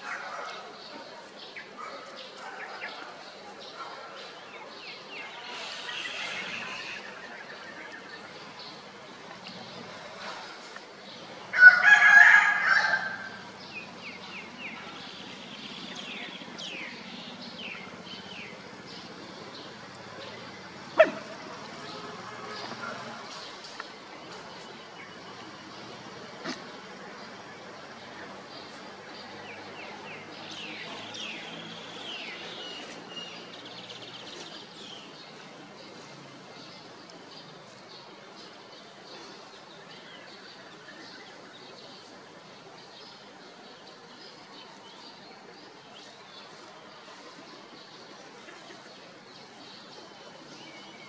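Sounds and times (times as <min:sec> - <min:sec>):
birds chirping and trilling: 0:00.0 - 0:51.0.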